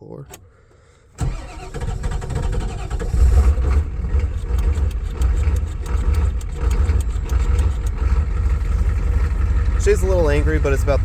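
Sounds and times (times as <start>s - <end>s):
diesel engine running rough: 1.2s - 11.0s.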